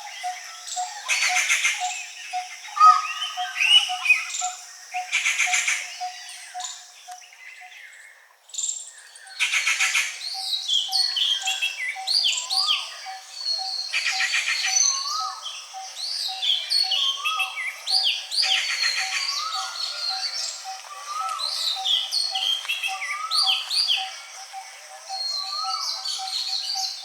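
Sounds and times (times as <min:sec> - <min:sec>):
birds chirping and whistling: 0:00.0 - 0:06.8, 0:09.4 - 0:27.0.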